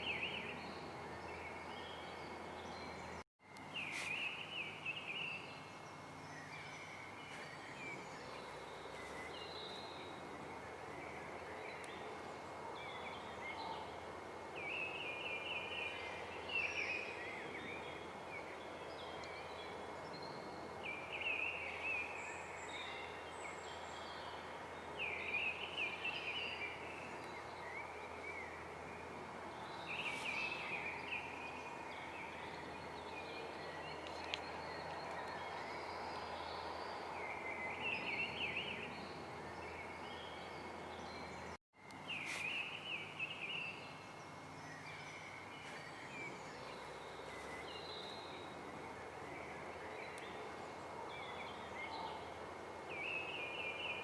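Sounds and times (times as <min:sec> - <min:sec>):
outdoor ambient hiss: 0:00.0 - 0:54.0
small birds chirping: 0:00.0 - 0:54.0.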